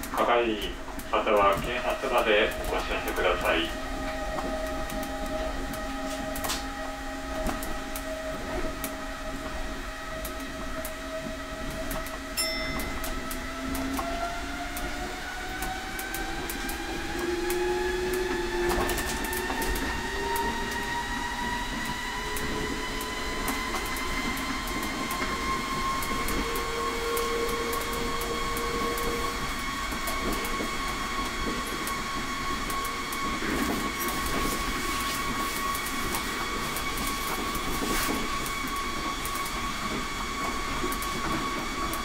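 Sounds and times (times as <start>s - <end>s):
monorail train drive whining: 0.0s - 42.0s.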